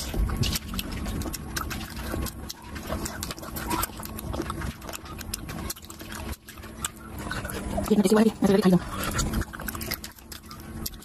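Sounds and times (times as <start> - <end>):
sticky mouth clicks: 0.0 - 8.3, 8.9 - 11.0
wet chewing and lip-smacking: 0.0 - 11.0.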